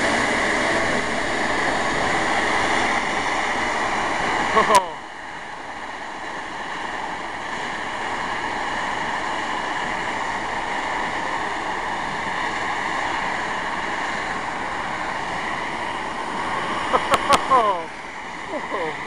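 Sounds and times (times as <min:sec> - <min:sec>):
steam locomotive venting steam: 0:00.0 - 0:19.0.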